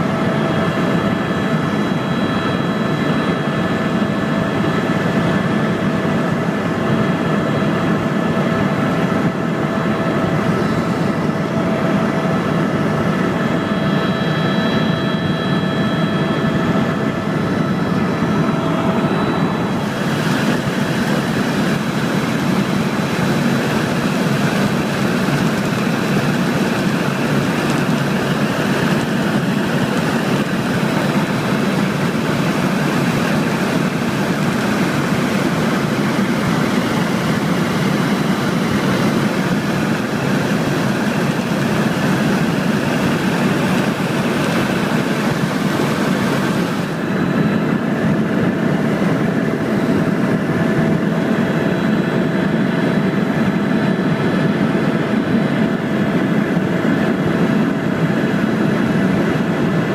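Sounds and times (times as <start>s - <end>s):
helicopter in flight: 0.0s - 59.9s.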